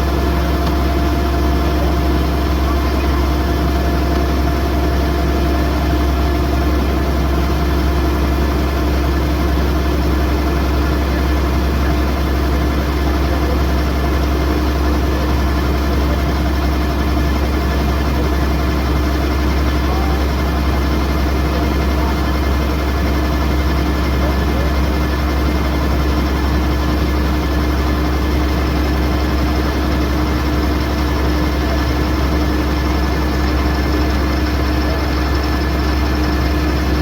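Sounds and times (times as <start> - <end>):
combine harvester engine droning: 0.0 - 37.0.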